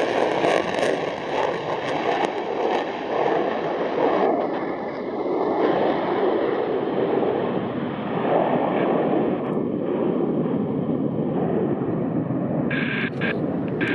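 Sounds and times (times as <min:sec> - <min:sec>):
jet engines in afterburner: 0:00.0 - 0:13.9.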